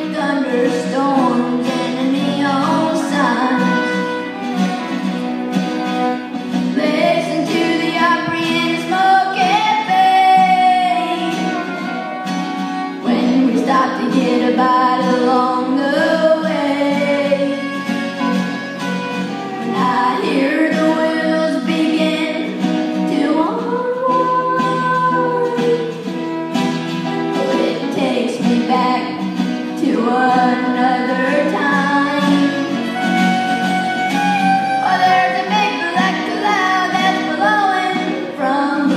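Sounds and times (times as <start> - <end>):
person singing: 0.0 - 5.2, 5.8 - 18.7, 19.3 - 26.4, 27.1 - 38.9
acoustic guitars playing: 0.0 - 38.9
fiddle: 0.0 - 38.9.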